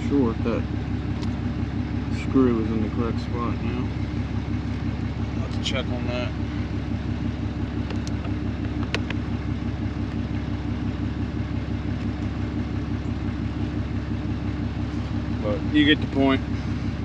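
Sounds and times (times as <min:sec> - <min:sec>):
pickup truck engine idling: 0:00.0 - 0:17.0.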